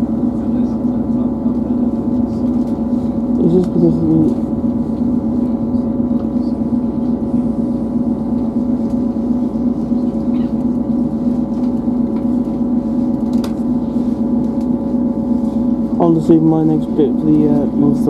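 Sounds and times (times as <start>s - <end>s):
train diesel engine drone: 0.0s - 18.0s
train rolling rumble: 0.0s - 18.0s.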